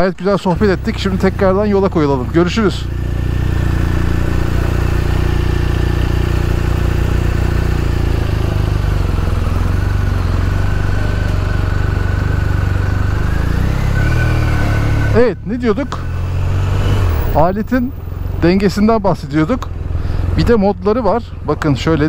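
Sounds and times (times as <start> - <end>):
motorcycle engine running: 0.5 - 22.0.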